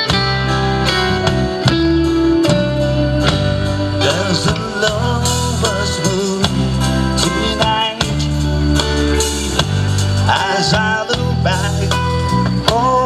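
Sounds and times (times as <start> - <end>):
guitar: 0.0 - 13.0
sustained bass line: 0.0 - 13.0
wavering melodic line: 0.2 - 13.0.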